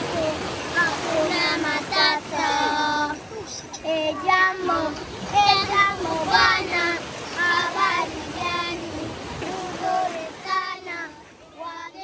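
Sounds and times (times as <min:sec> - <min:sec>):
children singing: 0:00.0 - 0:12.0.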